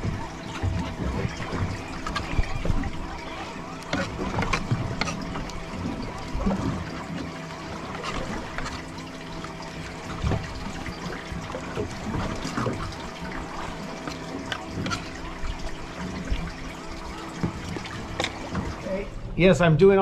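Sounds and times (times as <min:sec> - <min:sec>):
water trickling and splashing: 0:00.0 - 0:19.4.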